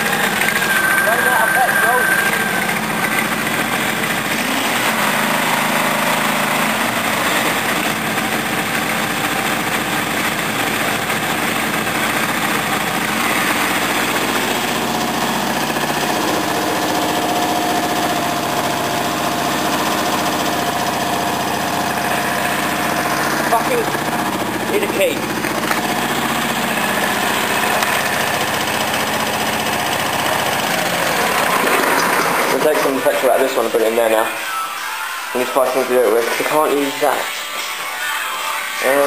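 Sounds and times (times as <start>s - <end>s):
mower engine idling: 0.0s - 34.2s.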